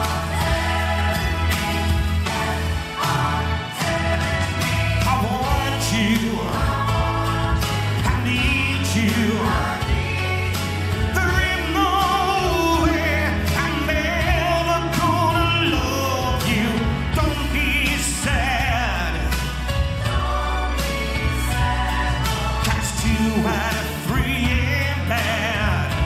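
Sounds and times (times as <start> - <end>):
drum hits: 0.0 - 26.0
man singing with vibrato: 0.0 - 26.0
steady bass: 0.0 - 26.0.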